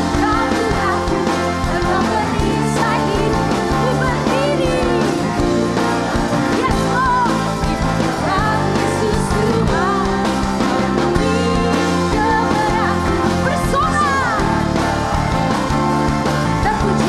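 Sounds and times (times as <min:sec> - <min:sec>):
band playing: 0:00.0 - 0:17.0
singers and choir singing: 0:00.0 - 0:17.0.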